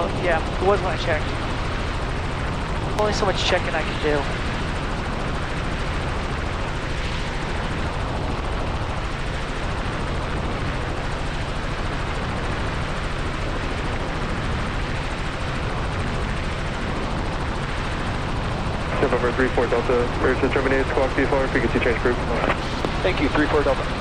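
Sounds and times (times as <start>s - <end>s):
helicopter cockpit drone: 0.0s - 24.0s.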